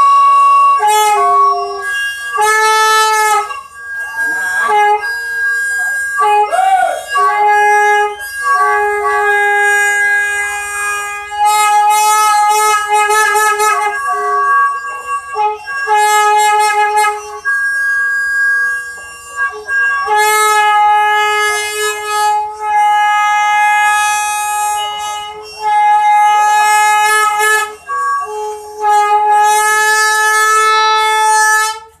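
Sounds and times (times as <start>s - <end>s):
musical horn playing a tune: 0.0s - 32.0s.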